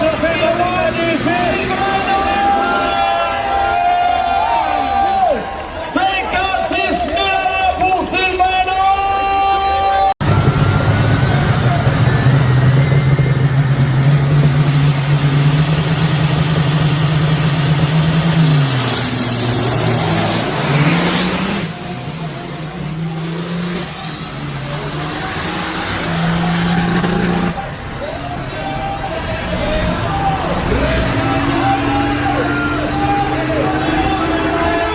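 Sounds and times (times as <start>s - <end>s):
heavy truck engine running hard: 0.0s - 4.4s, 10.2s - 34.9s.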